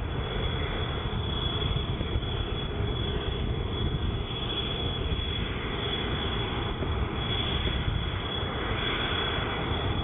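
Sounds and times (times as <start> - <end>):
jet engines rumbling and whining: 0.0 - 10.0.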